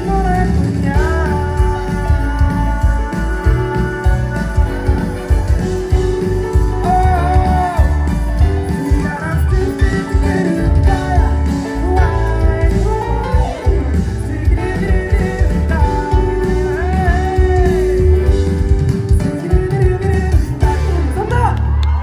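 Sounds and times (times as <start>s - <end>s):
live band with singing: 0.0s - 22.0s.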